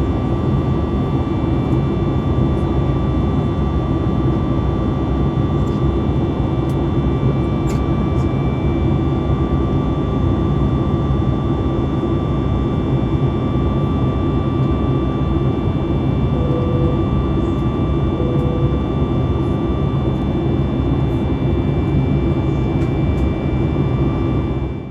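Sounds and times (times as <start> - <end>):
jet engine roar in cabin: 0.0 - 24.9.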